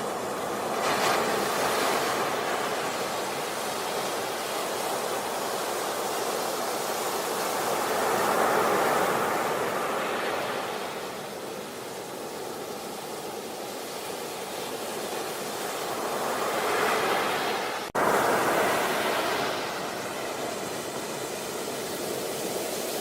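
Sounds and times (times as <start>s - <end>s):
sea waves washing onto beach: 0.0s - 23.0s.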